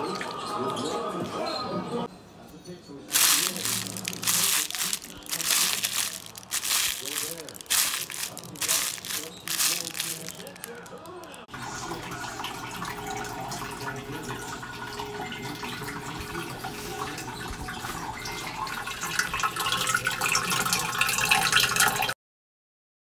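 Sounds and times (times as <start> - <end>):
aquarium water trickling: 3.1 - 22.1.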